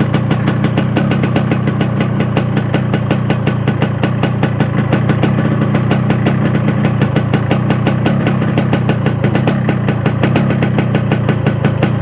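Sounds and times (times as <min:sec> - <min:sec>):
two-stroke motorcycle engine running: 0:00.0 - 0:12.0.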